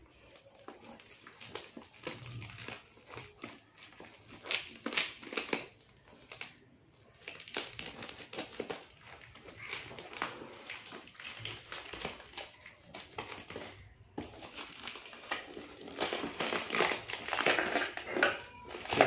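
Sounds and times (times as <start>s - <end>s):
plastic wrapping crinkling: 0.0s - 19.0s.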